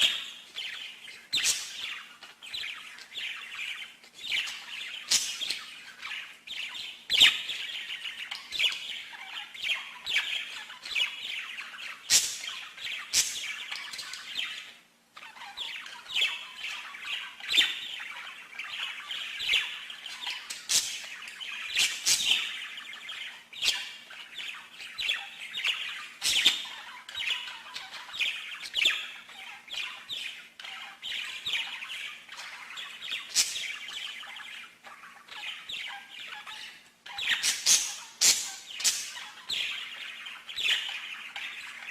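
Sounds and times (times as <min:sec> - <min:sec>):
bird squawks: 0:00.0 - 0:41.9
pet birds chirping: 0:00.0 - 0:41.9.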